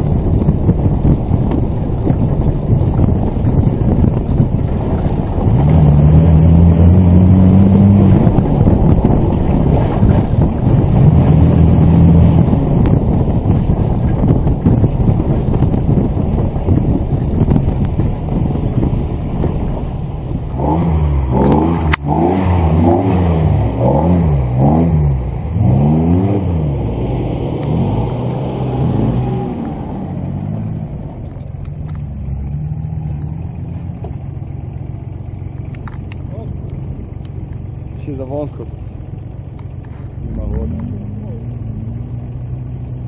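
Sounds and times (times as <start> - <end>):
off-road engine revving: 0.0 - 43.0.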